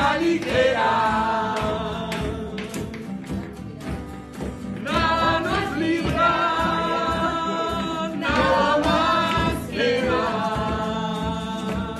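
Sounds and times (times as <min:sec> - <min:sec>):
man and woman singing: 0:00.0 - 0:03.4, 0:04.7 - 0:11.9
acoustic guitar strummed: 0:00.0 - 0:11.9.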